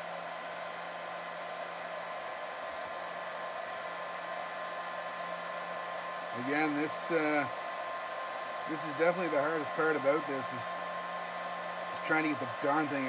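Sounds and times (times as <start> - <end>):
faint steady hum: 0.0 - 13.0
heat gun blowing air: 0.0 - 13.0.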